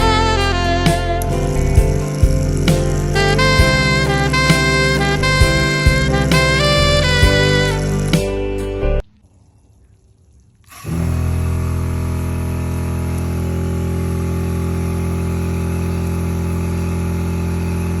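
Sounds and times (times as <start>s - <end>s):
electric pump humming: 0.0s - 18.0s.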